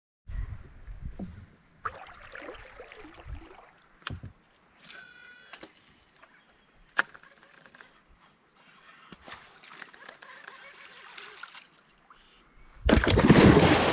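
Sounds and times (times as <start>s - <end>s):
quiet river background: 0.3s - 13.9s.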